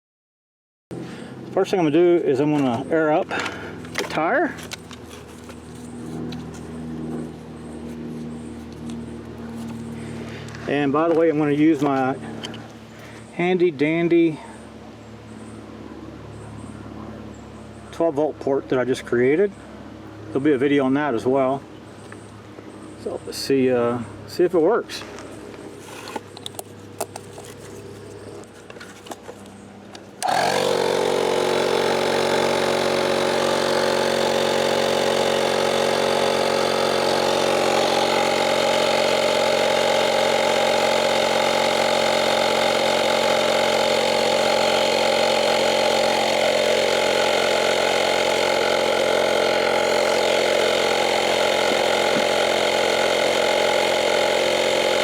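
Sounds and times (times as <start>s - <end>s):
tire inflator compressor running: 0.9s - 24.3s, 24.9s - 55.0s.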